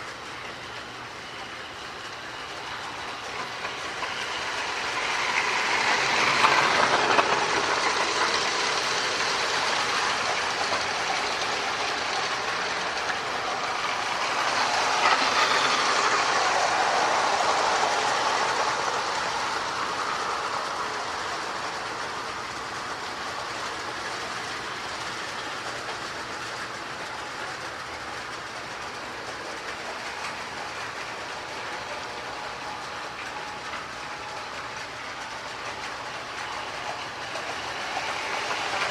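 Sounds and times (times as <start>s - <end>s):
toy train motor whirring: 0.0s - 38.9s
wheels rattling over rails: 0.0s - 38.9s.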